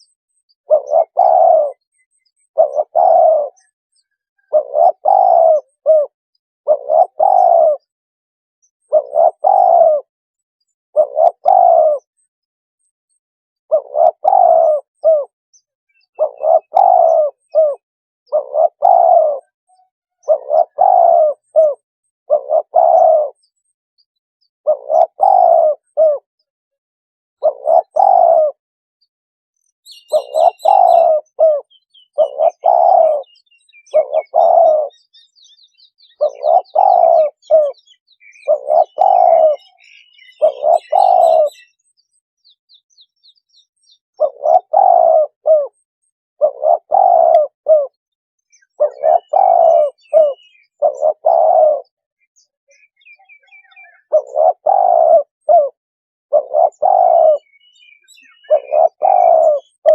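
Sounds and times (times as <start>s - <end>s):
dove cooing: 0.0s - 8.0s, 8.8s - 10.1s, 10.9s - 12.2s, 13.1s - 15.4s, 16.0s - 23.8s, 24.6s - 26.5s, 27.4s - 28.6s, 29.8s - 41.9s, 43.8s - 45.8s, 46.4s - 59.9s
small birds chirping: 0.0s - 8.0s, 8.6s - 26.6s, 27.4s - 59.9s.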